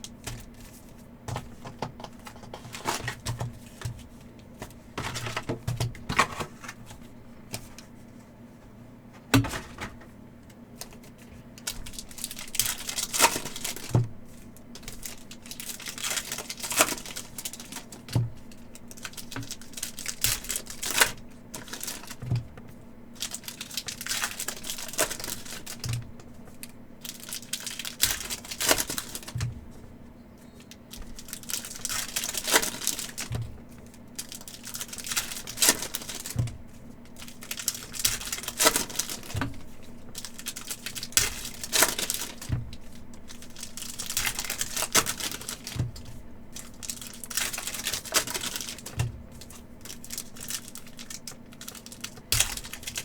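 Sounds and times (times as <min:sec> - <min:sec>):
foil wrappers crinkling and tearing: 0:00.0 - 0:07.8, 0:10.7 - 0:53.0
faint steady hum: 0:00.0 - 0:53.0.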